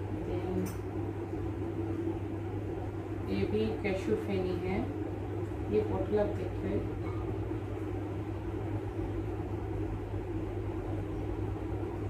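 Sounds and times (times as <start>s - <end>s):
low background hum and rumble: 0.0s - 12.0s.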